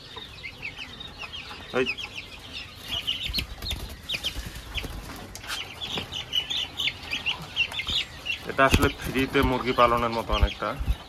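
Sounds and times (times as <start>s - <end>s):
quail and chickens chirping: 0.0s - 11.0s.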